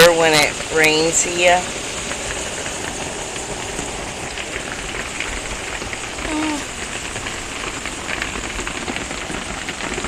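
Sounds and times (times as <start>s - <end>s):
rain on a metal roof: 0.0s - 10.0s.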